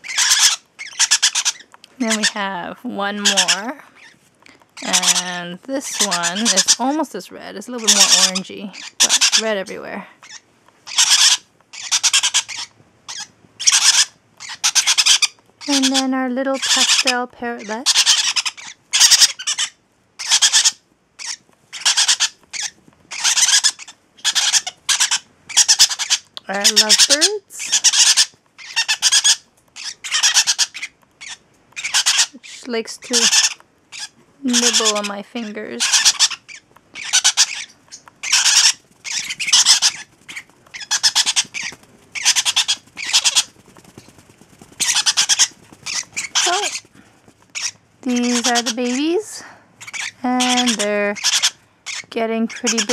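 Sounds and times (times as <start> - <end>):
parrot chicks squawking: 0.0 - 52.9.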